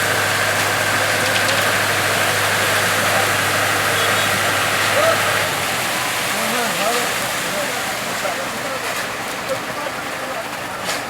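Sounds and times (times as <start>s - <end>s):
construction machine engine idling: 0.0s - 11.0s.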